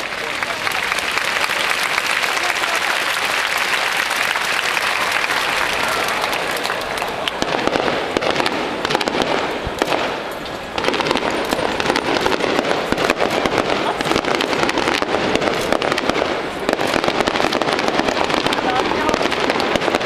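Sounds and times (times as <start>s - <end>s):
fireworks crackling: 0.0s - 20.0s
fireworks rumbling: 0.0s - 20.0s.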